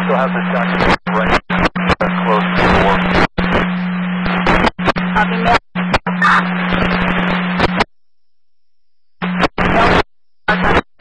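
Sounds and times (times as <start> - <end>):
radio static bursts: 0.0 - 7.9, 9.2 - 11.0
steady low hum: 0.0 - 11.0.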